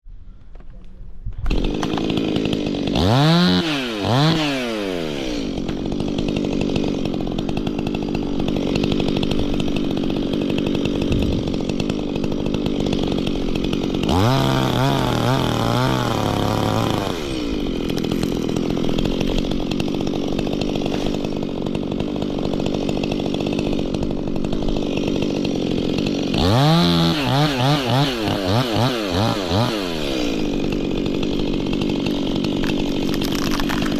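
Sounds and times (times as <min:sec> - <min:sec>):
chainsaw revving: 0:01.5 - 0:33.9.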